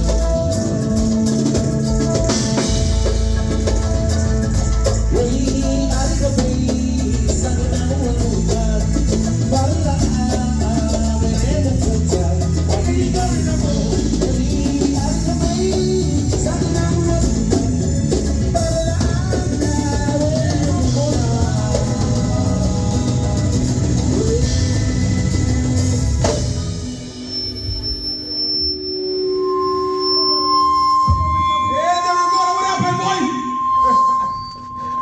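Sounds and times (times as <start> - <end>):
live band playing: 0.0 - 35.0.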